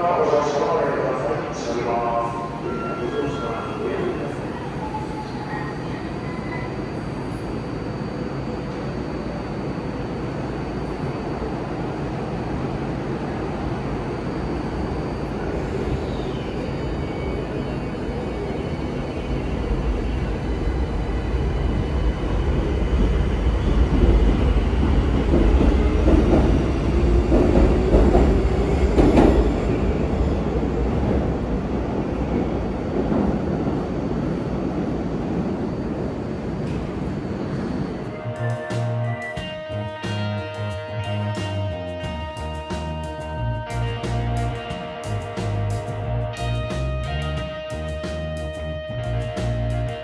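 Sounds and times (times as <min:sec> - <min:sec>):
subway train rumble: 0:00.0 - 0:50.0.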